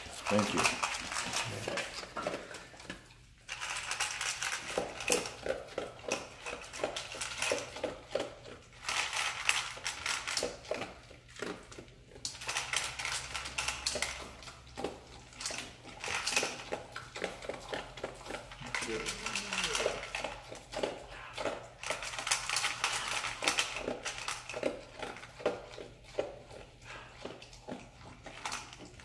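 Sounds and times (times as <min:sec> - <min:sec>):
dog crunching dry kibble: 0:00.0 - 0:29.0.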